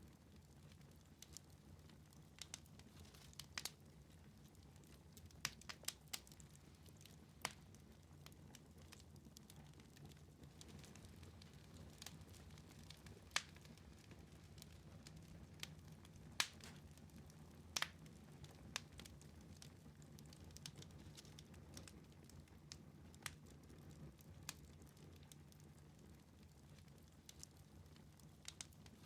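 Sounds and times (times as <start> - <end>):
wood fire crackling in fireplace: 0.0 - 29.0.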